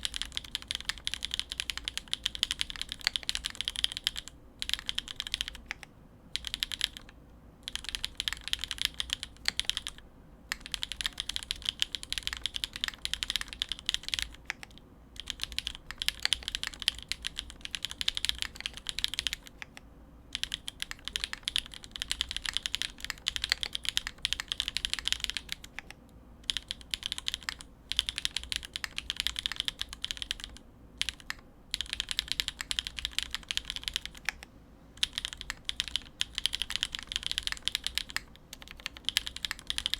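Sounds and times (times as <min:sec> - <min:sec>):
mechanical keyboard typing: 0:00.0 - 0:34.4, 0:35.0 - 0:39.9.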